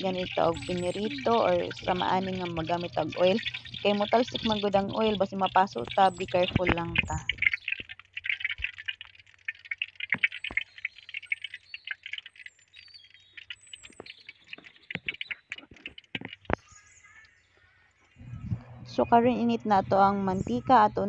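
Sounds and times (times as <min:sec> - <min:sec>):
burning wood popping: 0:00.0 - 0:18.2
oil crackling in a pan: 0:00.0 - 0:18.2.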